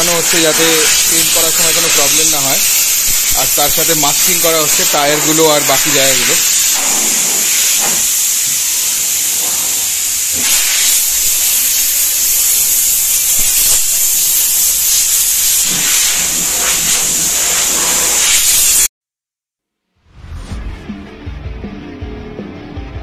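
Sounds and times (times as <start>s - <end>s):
compressed air hissing: 0.0s - 18.9s.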